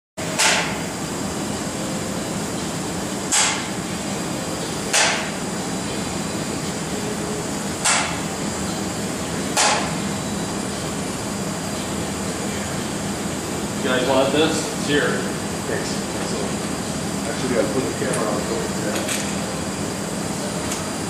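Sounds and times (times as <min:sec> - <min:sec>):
wind tunnel fan humming: 0:00.2 - 0:21.0.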